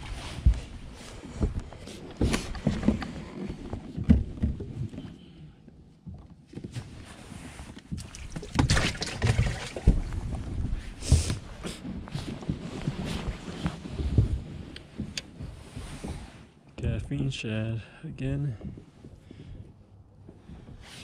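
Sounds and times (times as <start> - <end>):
knocks and thumps on a boat: 0.0 - 17.4, 18.5 - 21.0.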